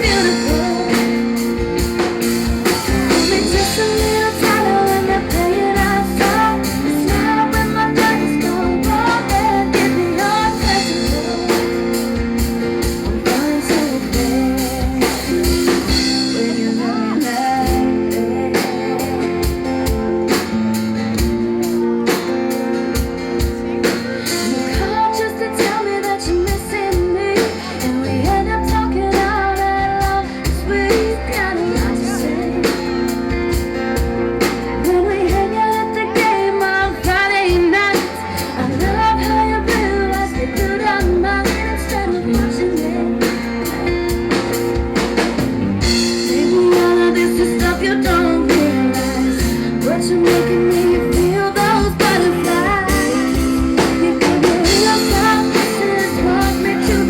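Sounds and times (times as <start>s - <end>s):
drum kit: 0.0s - 57.0s
guitar: 0.0s - 57.0s
woman singing: 0.0s - 57.0s.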